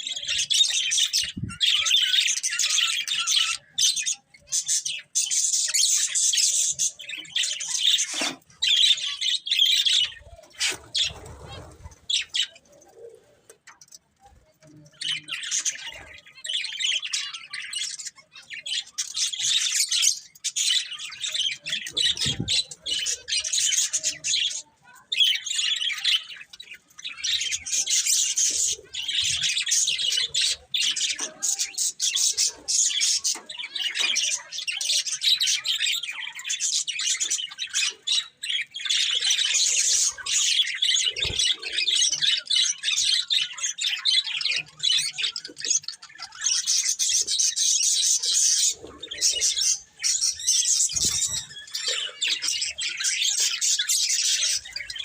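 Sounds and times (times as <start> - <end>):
budgerigars chattering and warbling: 0.0 - 14.0, 14.6 - 55.0.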